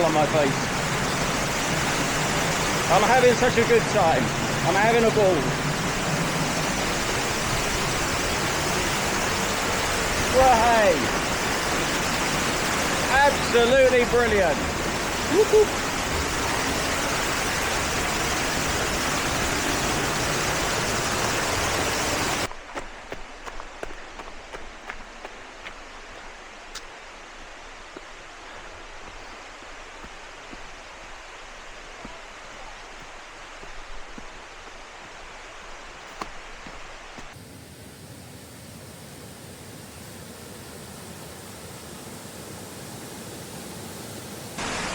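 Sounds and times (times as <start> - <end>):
waterfall roaring: 0.0 - 37.4, 44.5 - 44.9
distant rushing water: 0.0 - 44.9.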